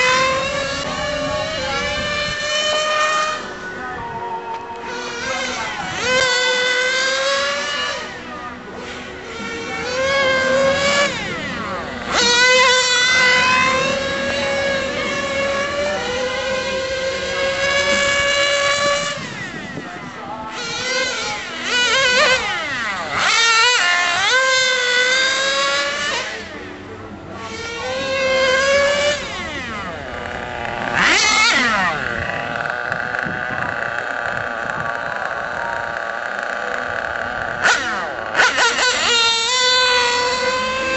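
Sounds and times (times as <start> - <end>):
nitro rc car engine whining: 0.0 - 40.9.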